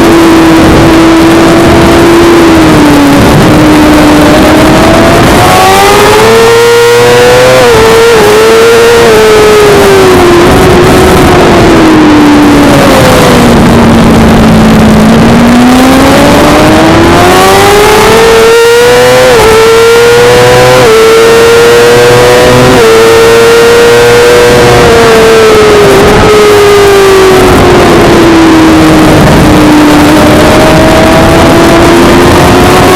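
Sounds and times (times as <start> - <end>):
motorcycle engine revving hard: 0.0 - 32.9.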